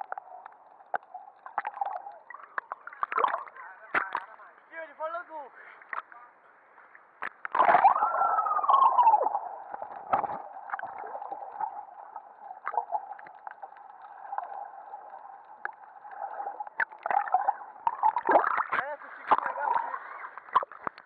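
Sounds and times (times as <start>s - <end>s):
water churning and bubbling: 0.0s - 4.4s, 7.0s - 21.0s
steady underwater hum: 0.0s - 4.8s, 5.4s - 21.0s.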